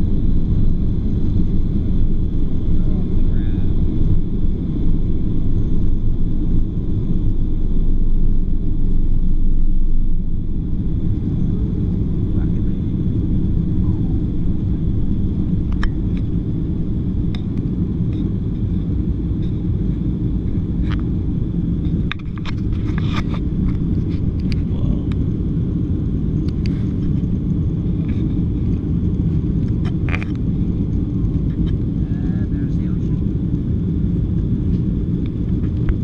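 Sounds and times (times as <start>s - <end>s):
jet engines and airflow rumble: 0.0s - 36.0s.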